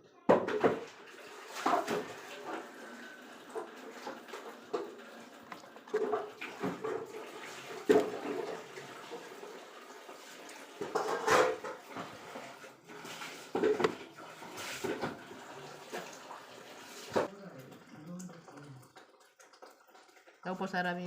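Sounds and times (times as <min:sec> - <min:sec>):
water splashing in basin: 0:00.5 - 0:21.0.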